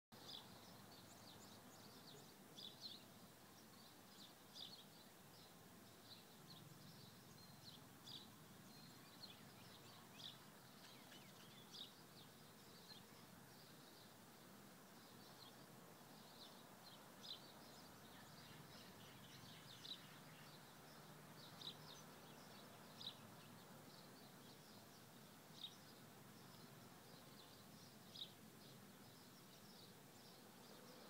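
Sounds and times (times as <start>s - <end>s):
faint outdoor background noise: 0.1s - 31.0s.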